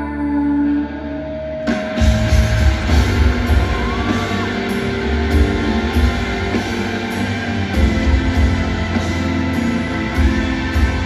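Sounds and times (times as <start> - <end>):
pulsing bass: 0.0 - 11.0
live band playing: 1.1 - 11.0.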